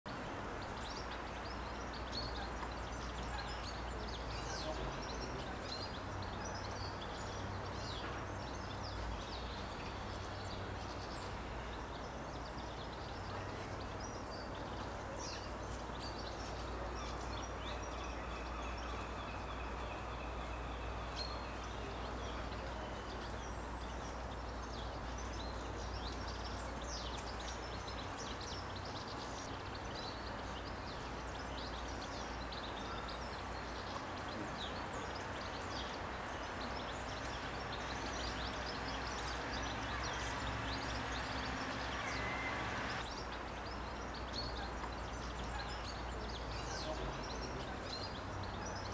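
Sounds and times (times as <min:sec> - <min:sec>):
long steady bird call: 0:00.1 - 0:48.9
small birds chirping: 0:00.1 - 0:48.9.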